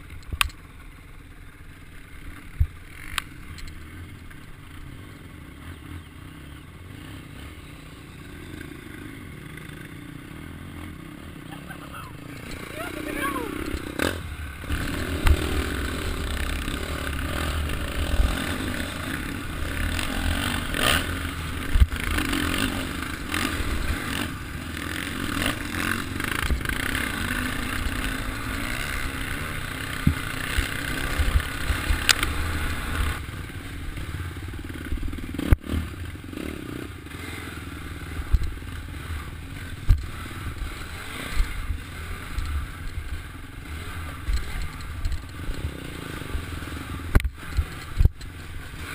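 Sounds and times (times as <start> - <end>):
dirt bike engine running: 0.0 - 48.9.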